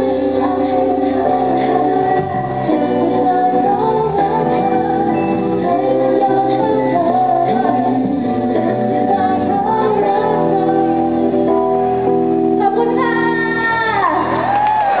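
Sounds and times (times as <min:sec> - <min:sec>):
woman singing: 0:00.0 - 0:14.6
keyboard: 0:00.0 - 0:15.0.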